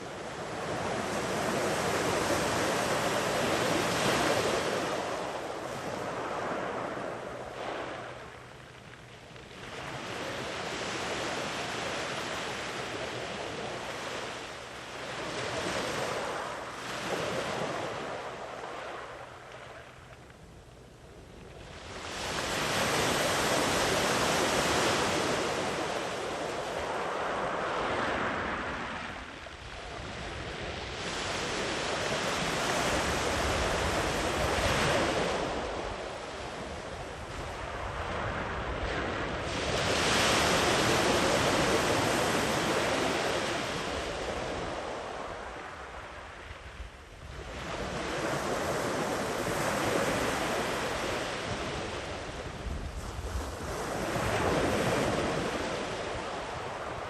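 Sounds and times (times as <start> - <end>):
sea waves breaking on shore: 9.4 - 20.0, 21.6 - 57.0.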